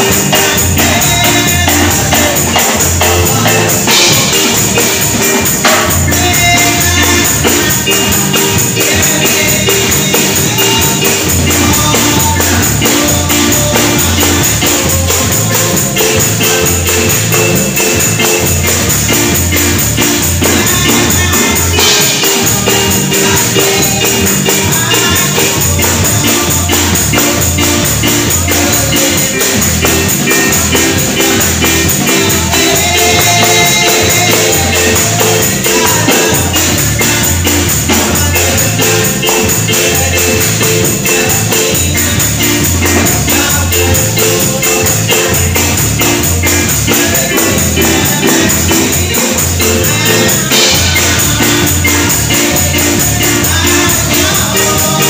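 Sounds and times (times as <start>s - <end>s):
repeating bass line: 0.0s - 55.0s
tambourine jingling: 0.0s - 55.0s.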